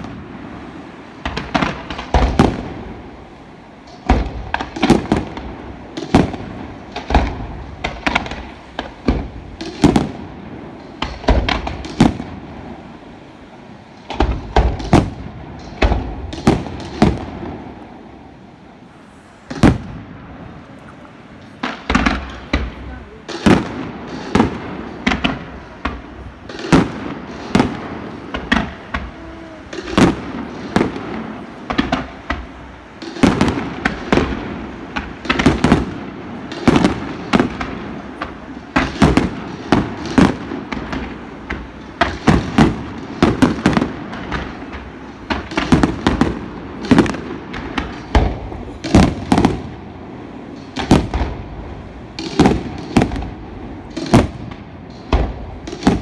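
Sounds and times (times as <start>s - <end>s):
fireworks exploding: 0.0s - 56.0s.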